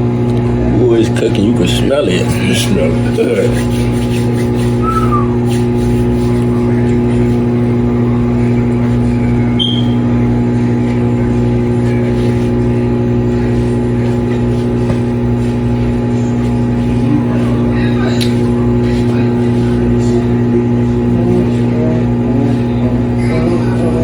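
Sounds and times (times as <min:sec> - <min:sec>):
oven electrical hum with fan: 0:00.0 - 0:24.0.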